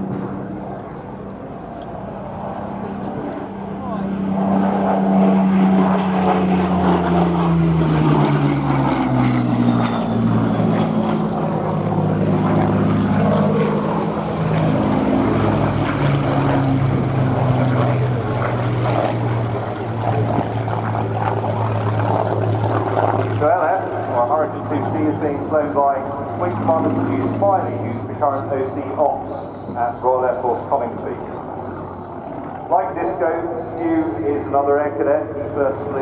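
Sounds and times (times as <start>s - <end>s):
propeller aircraft engines flying past: 0.0s - 36.0s.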